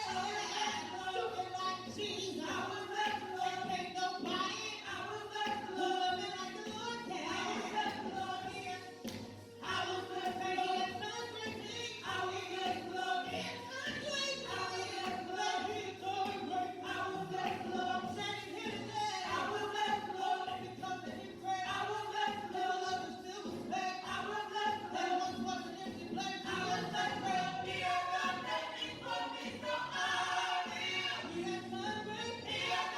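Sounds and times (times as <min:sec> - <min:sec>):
church choir singing: 0:00.0 - 0:32.9.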